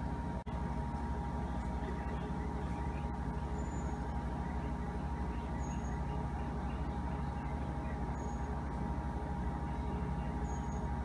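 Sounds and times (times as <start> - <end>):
faint constant whine: 0.0 - 11.0
machine hum: 0.0 - 11.0.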